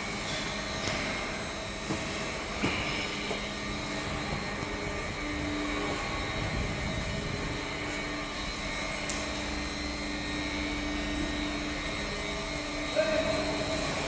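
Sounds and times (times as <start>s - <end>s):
printing machine mechanical hum: 0.0s - 14.0s.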